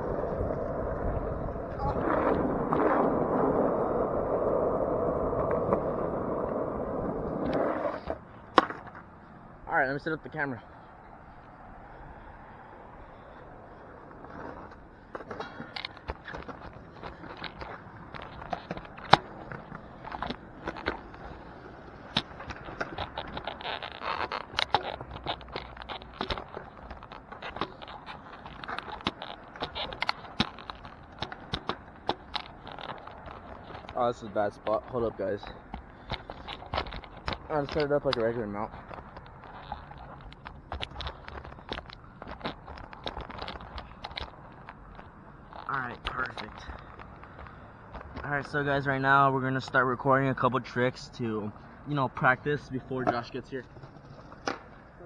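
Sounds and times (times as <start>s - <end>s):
skateboard wheels rolling on asphalt: 0.0s - 55.0s.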